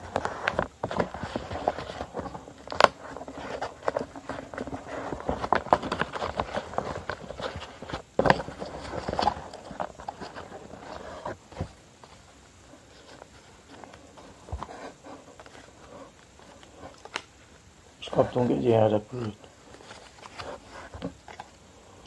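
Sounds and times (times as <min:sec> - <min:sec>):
paper folding and crackling: 0:00.0 - 0:17.3, 0:18.0 - 0:21.6.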